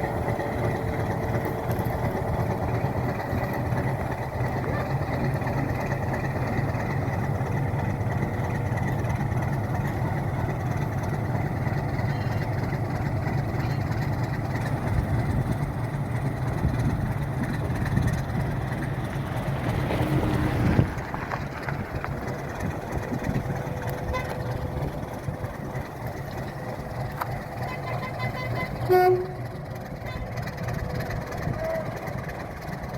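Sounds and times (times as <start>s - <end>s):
diesel locomotive engine droning: 0.0s - 32.9s
engine knocks: 0.0s - 32.9s.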